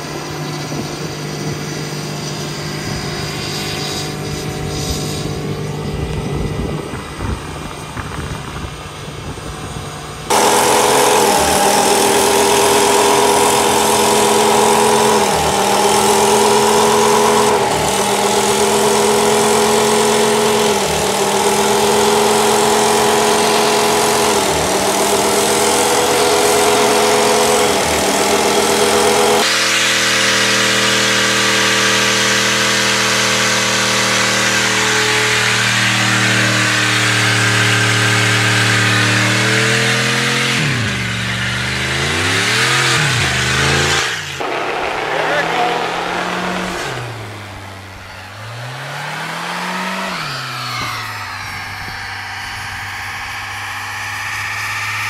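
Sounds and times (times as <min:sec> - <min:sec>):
pickup engine at lower pitch: 0:00.0 - 0:55.0
truck engines revving high: 0:00.0 - 0:55.0.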